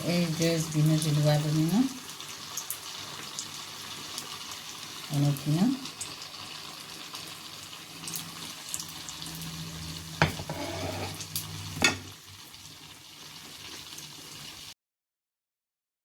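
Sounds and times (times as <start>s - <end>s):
food sizzling in hot oil: 0.0s - 14.8s.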